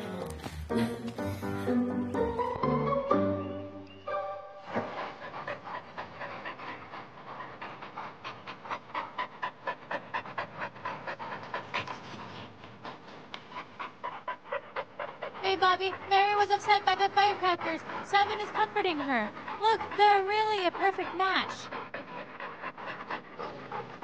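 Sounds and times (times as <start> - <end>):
dog panting: 0.0 - 2.5, 4.5 - 24.0.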